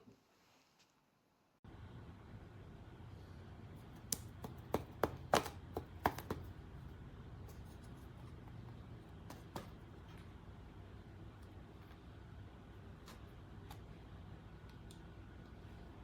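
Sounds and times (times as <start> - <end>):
low steady hum: 1.5 - 16.0.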